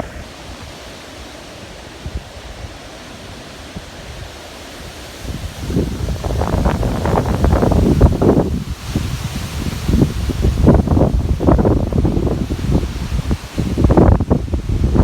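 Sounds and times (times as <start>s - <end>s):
wind buffeting microphone: 0.0s - 2.9s, 3.8s - 15.0s
strong wind gusts: 0.0s - 15.0s.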